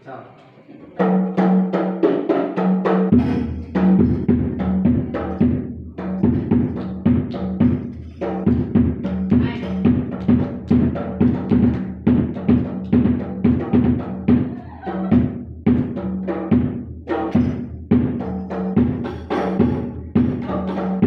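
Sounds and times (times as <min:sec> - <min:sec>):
bass frame drum beaten with stick: 0:01.1 - 0:21.0.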